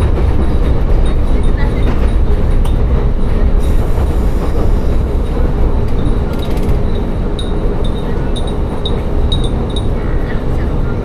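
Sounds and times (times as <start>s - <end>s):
railcar engine and wheels rumbling: 0.0s - 11.0s.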